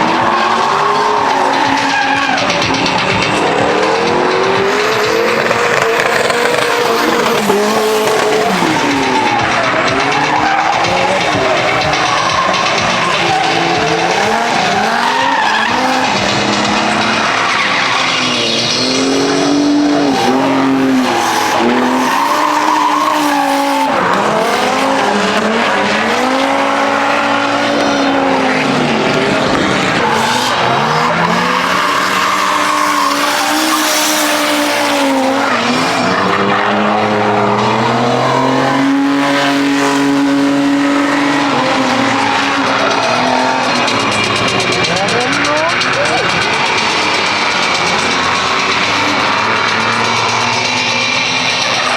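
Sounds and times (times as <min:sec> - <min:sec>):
car engine revving: 0:00.0 - 0:51.9
tyres squealing and skidding: 0:00.0 - 0:51.9.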